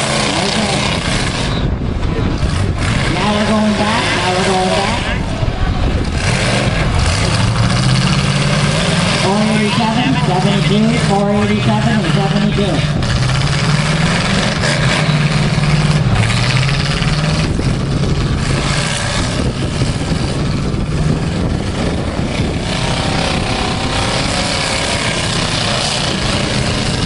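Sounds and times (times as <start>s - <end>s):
car engines running hard: 0.0s - 27.0s.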